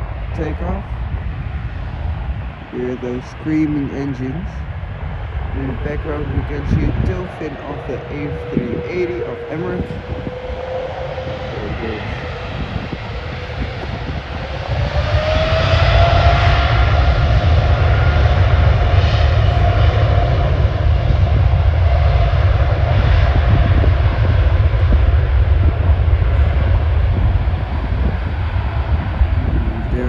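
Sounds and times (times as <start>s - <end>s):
deep rumble: 0.0s - 30.0s
jet engines screaming: 0.0s - 30.0s.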